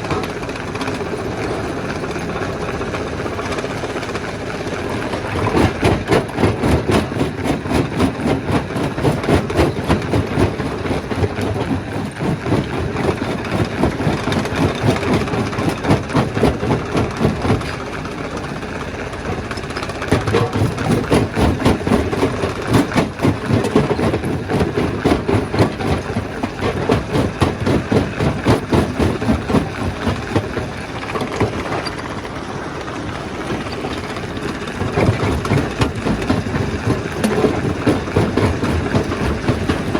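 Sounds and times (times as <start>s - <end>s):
steady engine: 0.0s - 39.9s
stone crusher knocking and rattling: 5.0s - 39.9s.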